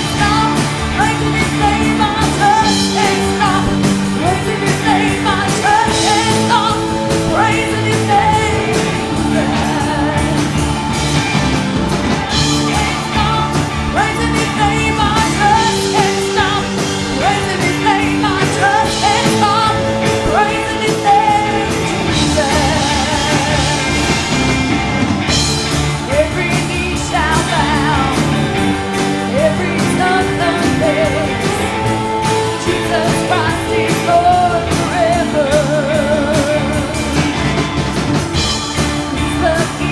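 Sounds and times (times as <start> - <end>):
singing over a band: 0.0 - 39.9
steady drum beat: 0.0 - 39.9.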